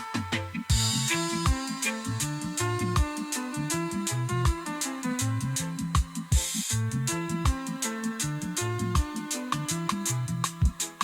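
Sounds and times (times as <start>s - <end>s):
music with drum beat and bass: 0.0s - 11.0s
cymbal-like hiss: 0.7s - 10.2s.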